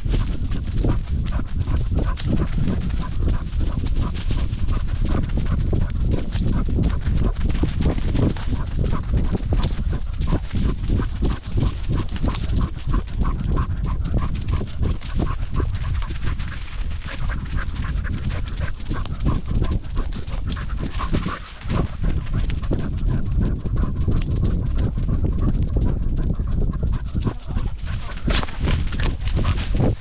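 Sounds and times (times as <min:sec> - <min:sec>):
dog panting hard: 0:00.0 - 0:30.0
wind rumble on microphone: 0:00.0 - 0:30.0.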